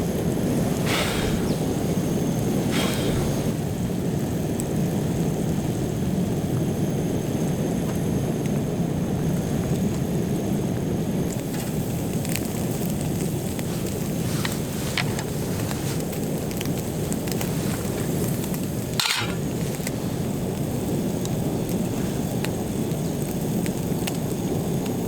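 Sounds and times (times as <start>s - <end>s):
rain falling on a tent: 0.0s - 25.0s.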